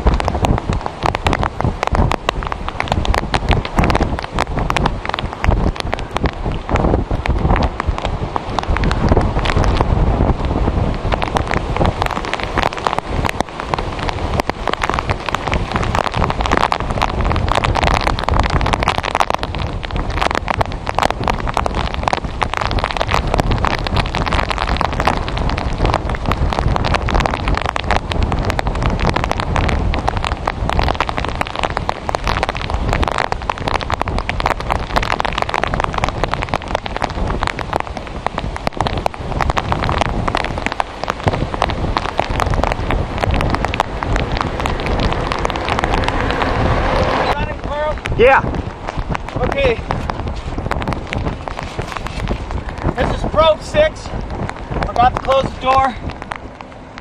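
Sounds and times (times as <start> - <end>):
heavy rain: 0.0 - 57.0
wind on microphone: 0.0 - 57.0.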